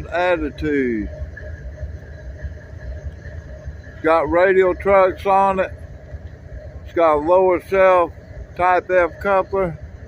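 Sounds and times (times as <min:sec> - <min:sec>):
faint steady hum: 0:00.0 - 0:10.0
low uneven rumbling: 0:00.0 - 0:10.0.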